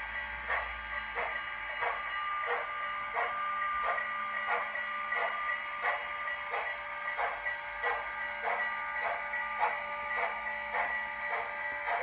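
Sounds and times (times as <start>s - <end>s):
model train steam chuffs: 0.0s - 12.0s
steady whine: 0.0s - 12.0s.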